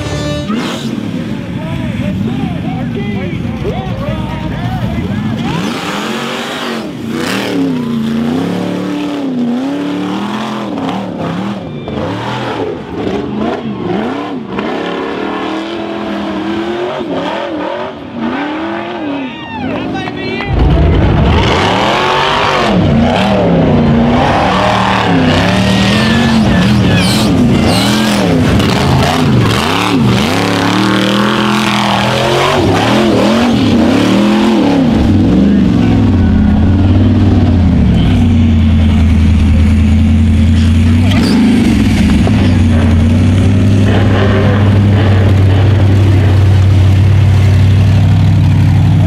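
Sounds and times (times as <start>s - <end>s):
buggy engine revving: 0.0s - 49.0s.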